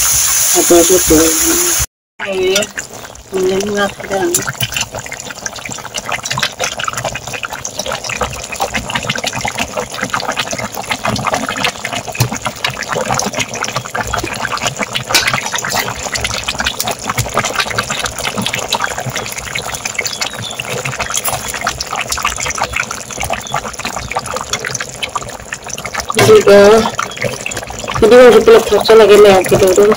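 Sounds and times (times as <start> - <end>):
curry bubbling in a pot: 1.7 - 29.9.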